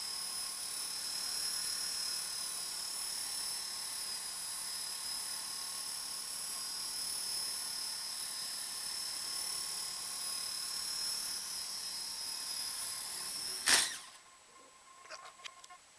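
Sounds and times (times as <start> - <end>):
rc helicopter high whine: 0.0 - 15.9.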